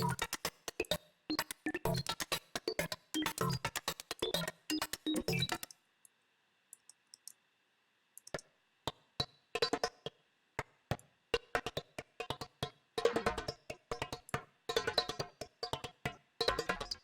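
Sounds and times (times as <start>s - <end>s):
glitchy drum loop clicks and hits: 0.0s - 5.8s, 8.2s - 17.0s.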